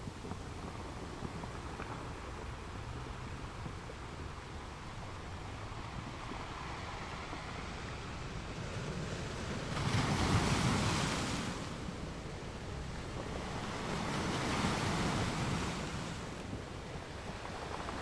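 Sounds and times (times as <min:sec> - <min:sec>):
sea waves washing: 0:00.0 - 0:18.0
wind noise on microphone: 0:00.0 - 0:18.0.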